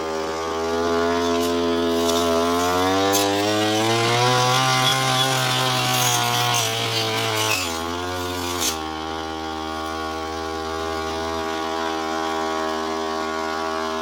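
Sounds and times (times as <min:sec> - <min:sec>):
brush cutter engine cutting grass: 0:00.0 - 0:14.0.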